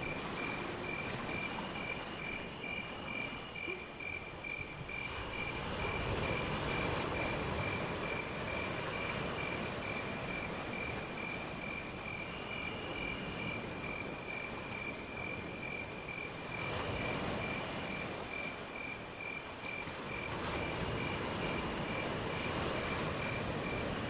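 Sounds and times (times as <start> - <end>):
cricket chirping: 0.0 - 24.0
hissing insect trill: 0.0 - 24.0
steady background hiss: 0.0 - 24.0.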